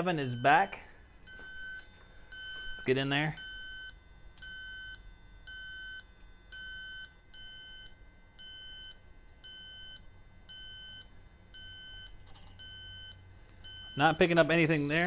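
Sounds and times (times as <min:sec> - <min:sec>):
leak detector beeping: 0:00.0 - 0:15.0.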